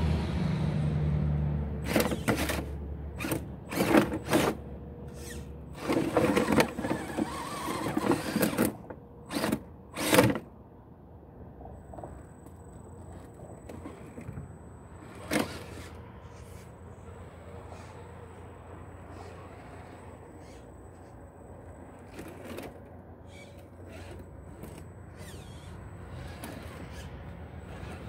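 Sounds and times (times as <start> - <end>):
rc truck drivetrain hum: 1.8 - 10.6, 11.7 - 28.0.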